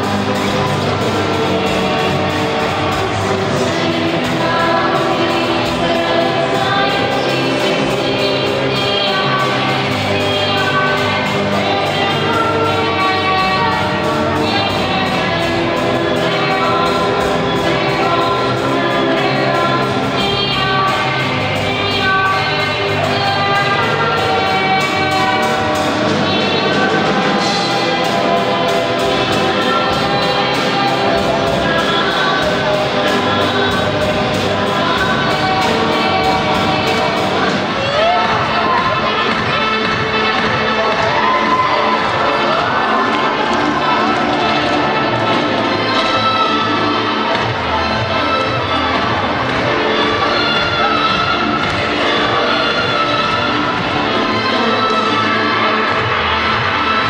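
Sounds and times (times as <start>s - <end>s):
drum kit playing: 0.0s - 45.9s
live rock band: 0.0s - 57.0s.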